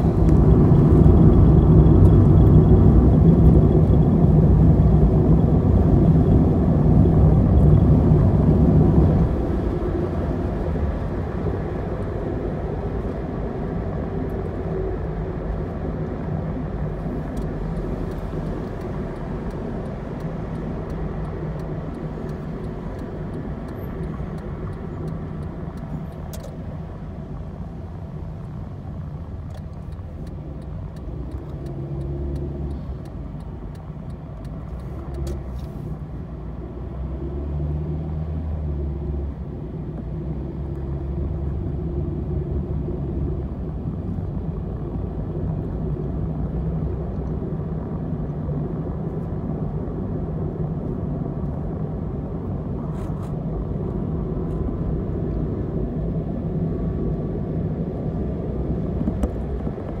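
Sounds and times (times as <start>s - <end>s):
road and engine noise in car: 0.0s - 60.0s.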